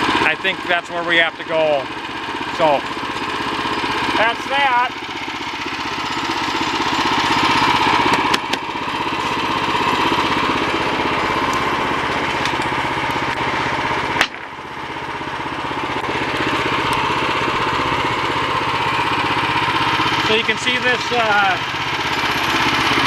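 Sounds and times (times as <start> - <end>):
gasoline engine running: 0.0 - 23.0.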